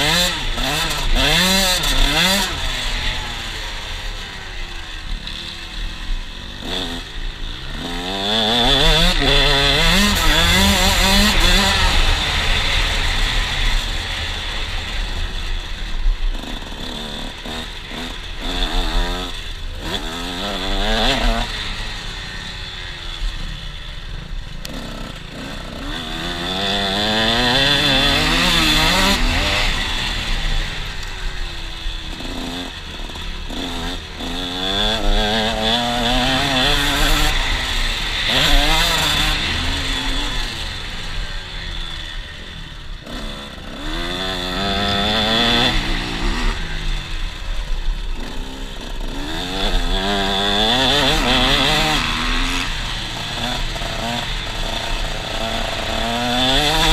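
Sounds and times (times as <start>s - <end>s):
motocross engine revving: 0.0s - 56.9s.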